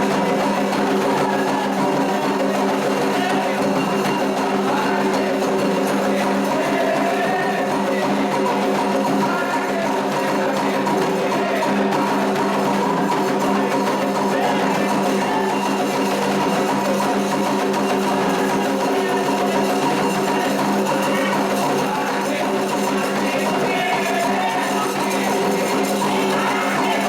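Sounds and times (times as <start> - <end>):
drums and percussion: 0.0 - 27.0
voices singing: 0.0 - 27.0.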